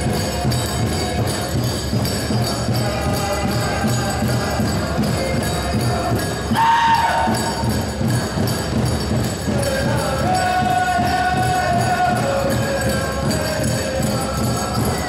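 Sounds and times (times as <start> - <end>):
bells jingling: 0.0 - 15.0
drum beating steady pulse: 0.0 - 15.0.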